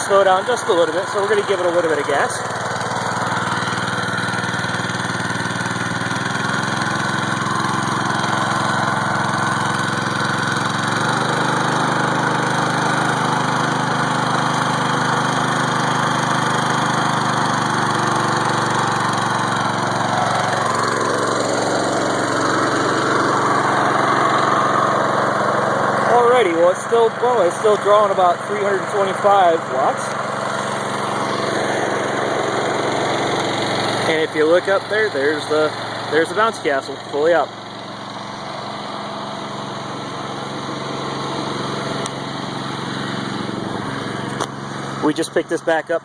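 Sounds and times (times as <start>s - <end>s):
small engine running under load: 0.0s - 46.0s.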